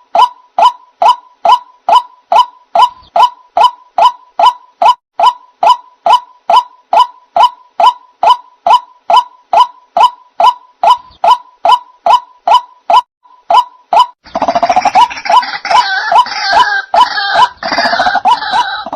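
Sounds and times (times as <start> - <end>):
waterhen calling: 0.0 - 18.9.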